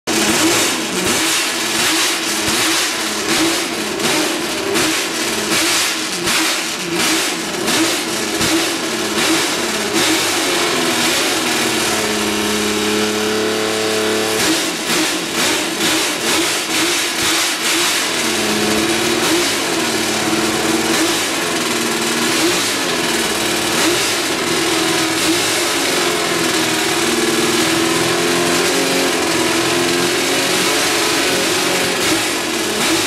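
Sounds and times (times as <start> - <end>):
racing engine revving: 0.1 - 33.0.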